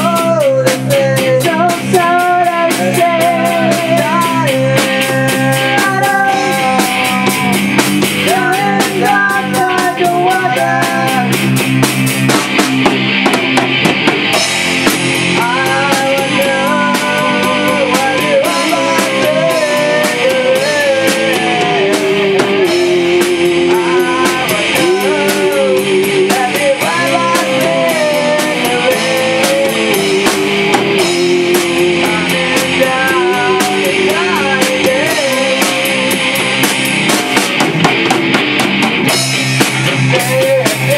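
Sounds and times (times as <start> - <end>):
drum kit with cymbals: 0.0 - 40.9
electric guitar chords: 0.0 - 40.9
bending melody line: 1.8 - 40.9.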